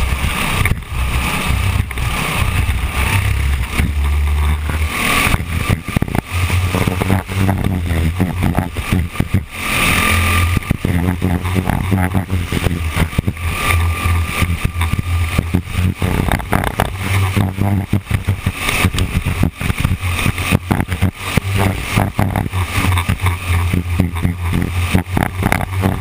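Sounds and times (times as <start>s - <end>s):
race car engine: 0.0s - 26.0s
wind buffeting microphone: 0.0s - 26.0s.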